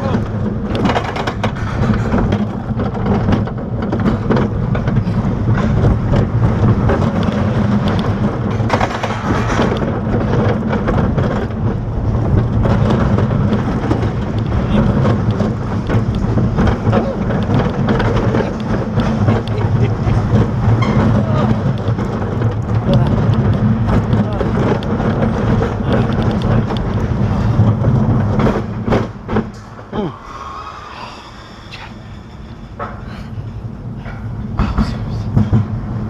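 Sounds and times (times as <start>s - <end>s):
roller coaster wheels rumbling on track: 0.0s - 36.0s
wind buffeting microphone: 0.0s - 36.0s.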